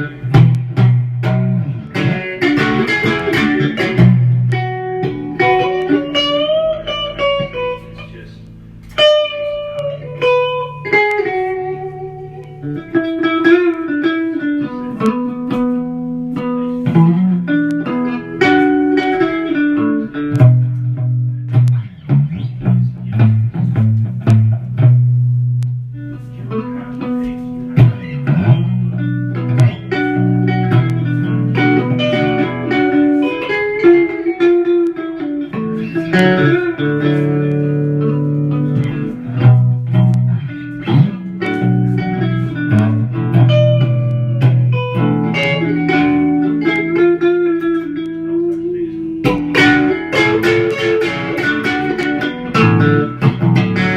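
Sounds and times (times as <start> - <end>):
blues guitar riff: 0.0 - 53.9.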